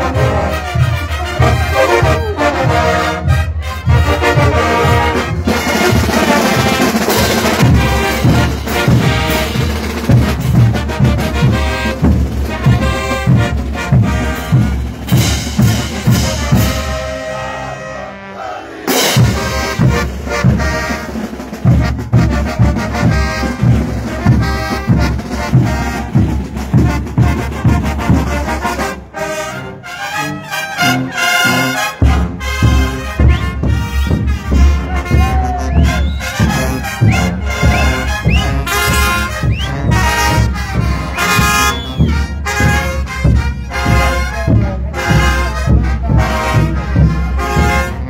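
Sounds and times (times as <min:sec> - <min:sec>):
bass drums beat: 0:00.0 - 0:17.0, 0:19.2 - 0:29.0, 0:32.0 - 0:48.0
snare drums: 0:00.0 - 0:17.2, 0:18.9 - 0:29.6, 0:31.0 - 0:48.0
brass band playing: 0:00.0 - 0:48.0.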